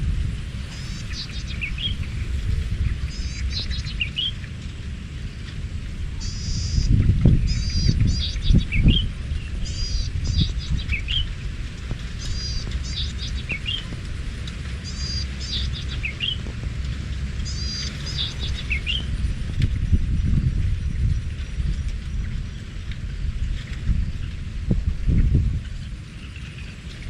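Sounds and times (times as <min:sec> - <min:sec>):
wind rumble on microphone: 0:00.0 - 0:27.0
songbird singing: 0:00.5 - 0:04.6, 0:05.2 - 0:27.0.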